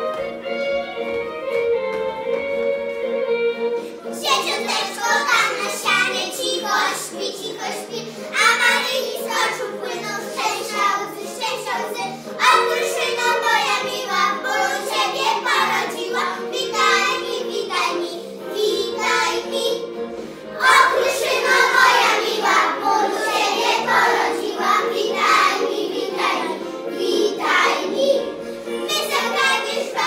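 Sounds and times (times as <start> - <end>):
instrumental backing music: 0.0 - 30.0
children singing a carol: 4.2 - 19.9, 20.5 - 30.0.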